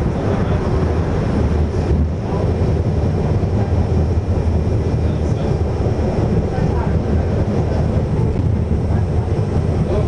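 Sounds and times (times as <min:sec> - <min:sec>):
motorway traffic rumble: 0:00.0 - 0:10.0.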